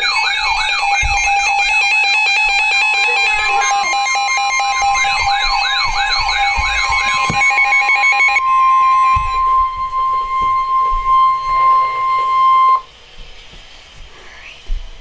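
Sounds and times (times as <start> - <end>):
steady alert tones: 0.0 - 12.9
warbling siren alarm: 0.0 - 12.9
steady high alarm tone: 0.0 - 13.0.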